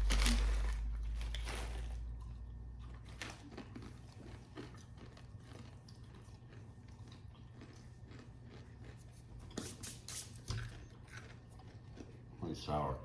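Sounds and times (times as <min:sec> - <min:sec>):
person chewing a snack: 0:00.0 - 0:12.7.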